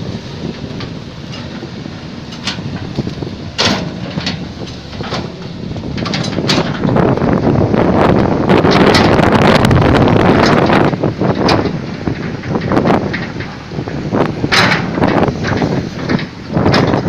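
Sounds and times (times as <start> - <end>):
excavator rumbling: 0.0 - 17.0
wind noise on microphone: 0.0 - 17.0
metallic clanks and knocks: 0.5 - 7.2, 8.6 - 17.0.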